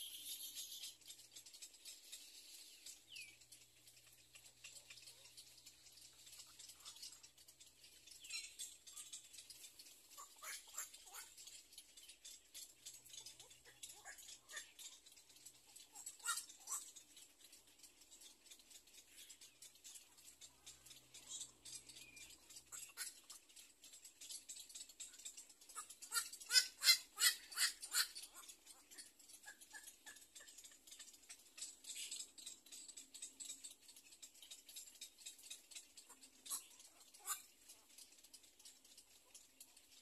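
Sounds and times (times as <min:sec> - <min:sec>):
rapid bird calls: 0:00.0 - 0:40.0
egret chicks chattering: 0:02.8 - 0:39.8.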